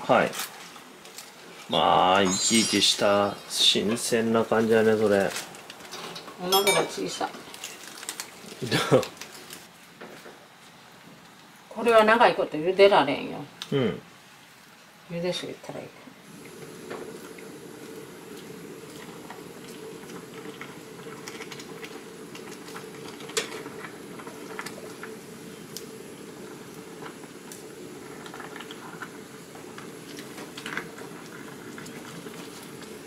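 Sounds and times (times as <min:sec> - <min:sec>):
water boiling in a pot: 0:00.0 - 0:13.5, 0:14.2 - 0:33.0.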